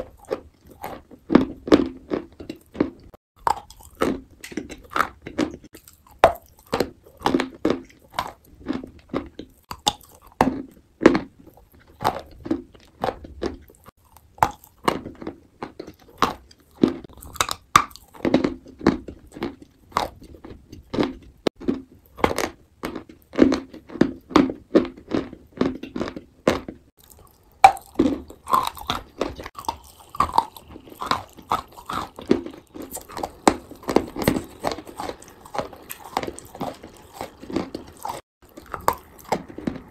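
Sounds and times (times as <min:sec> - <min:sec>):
crunching and wet chewing: 0:00.0 - 0:39.9.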